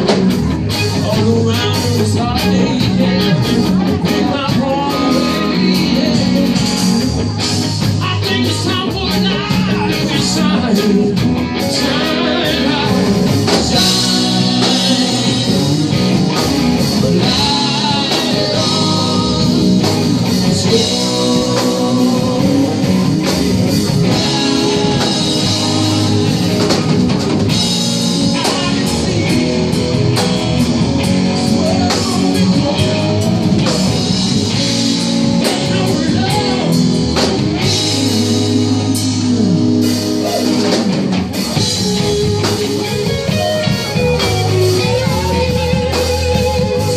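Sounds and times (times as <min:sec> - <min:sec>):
drum kit beat: 0:00.0 - 0:46.9
electric guitars: 0:00.0 - 0:46.9.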